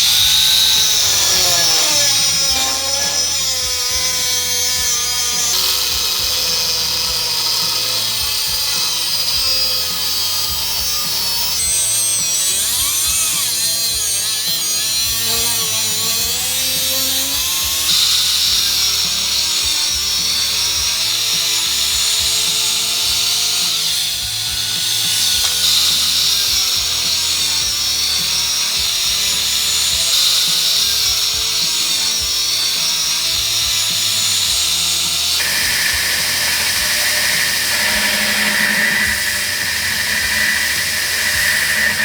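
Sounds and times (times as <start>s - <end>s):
power tool whining on metal: 0.0s - 42.0s.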